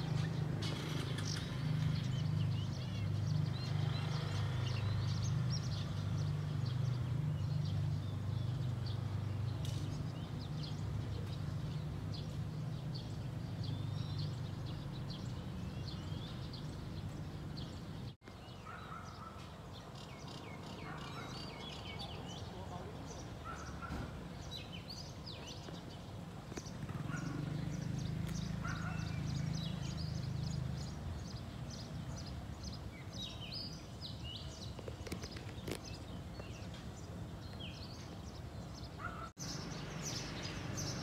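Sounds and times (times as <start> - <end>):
birds chirping and calling: 0.0 - 41.0.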